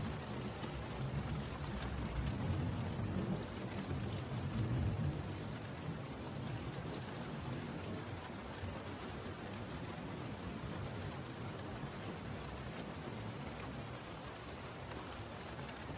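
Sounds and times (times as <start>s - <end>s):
steady rain: 0.0s - 15.9s.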